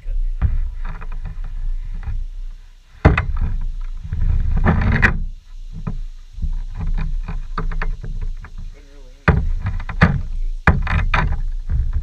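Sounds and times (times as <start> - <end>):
scraping rustle: 0.0 - 12.0
wind rumble on microphone: 0.0 - 12.0.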